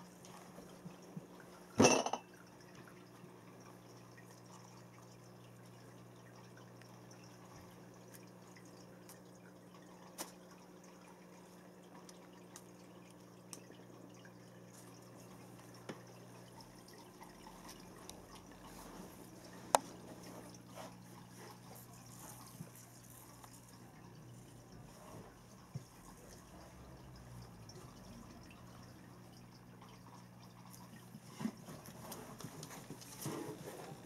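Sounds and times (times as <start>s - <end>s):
pet drinking fountain hum: 0.0s - 34.0s
soft dripping ticks: 2.3s - 33.2s.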